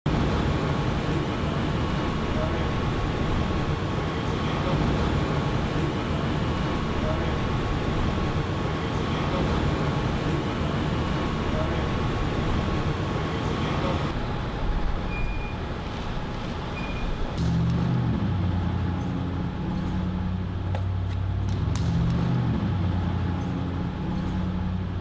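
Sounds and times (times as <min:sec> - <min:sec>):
low rumble of vehicles: 0:00.0 - 0:25.0.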